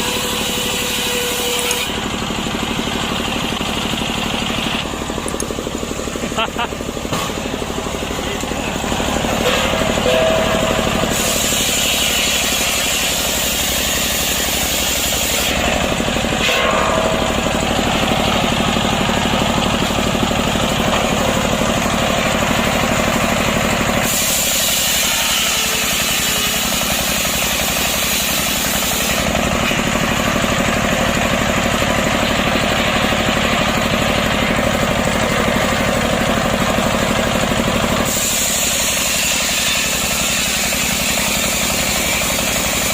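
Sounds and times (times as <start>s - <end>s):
chainsaw cutting log: 0.0s - 30.5s, 31.3s - 42.9s.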